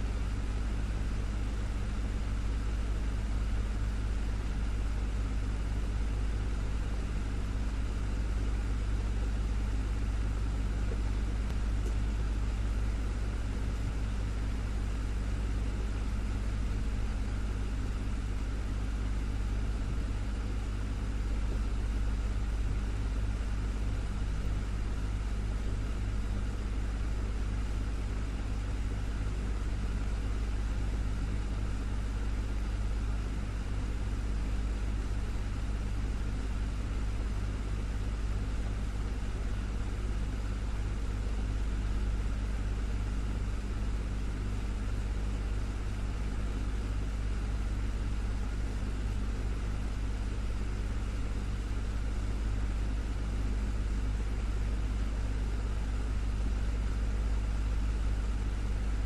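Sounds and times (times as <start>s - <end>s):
desktop fan running: 0.0s - 59.0s.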